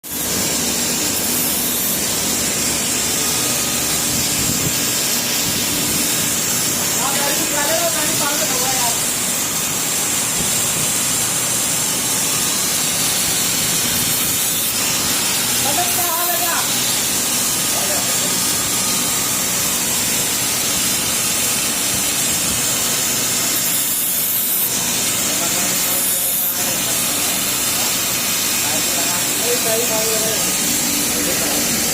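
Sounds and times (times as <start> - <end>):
machinery hissing: 0.0 - 31.9.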